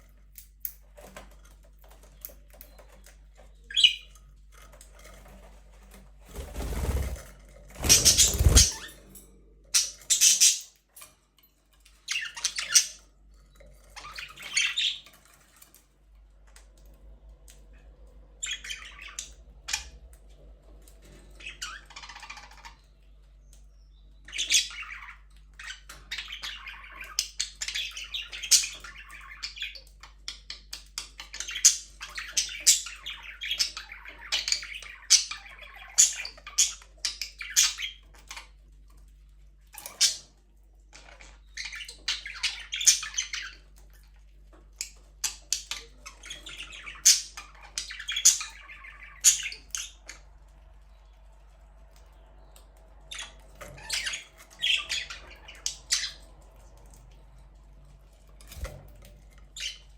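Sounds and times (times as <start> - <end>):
budgerigars chirping and squawking: 0.6 - 5.5, 7.8 - 9.0, 9.7 - 11.1, 11.9 - 13.1, 13.8 - 15.5, 18.4 - 20.0, 21.0 - 38.6, 39.8 - 40.4, 41.0 - 57.7, 58.5 - 59.9.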